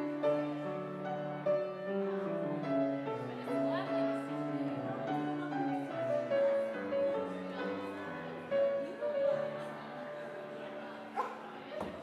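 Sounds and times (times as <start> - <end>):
classical keyboard music: 0.0 - 11.7.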